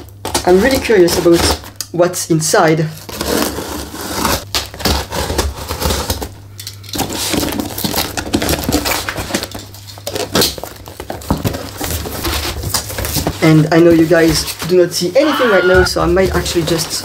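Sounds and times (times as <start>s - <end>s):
crackling tape and cardboard: 0.0s - 2.0s, 2.7s - 14.7s.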